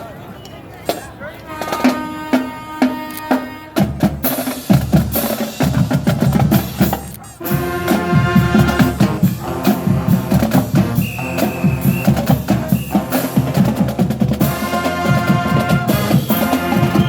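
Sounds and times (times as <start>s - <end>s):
drums beating: 0.9s - 17.0s
brass and wind instruments: 1.3s - 17.0s.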